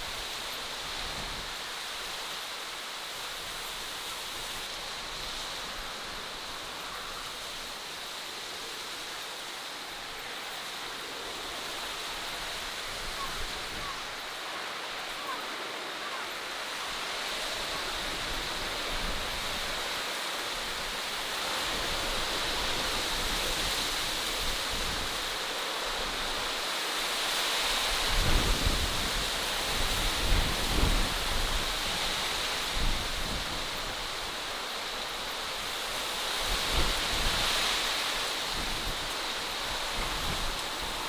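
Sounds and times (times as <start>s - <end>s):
steady rushing hiss: 0.0s - 41.0s.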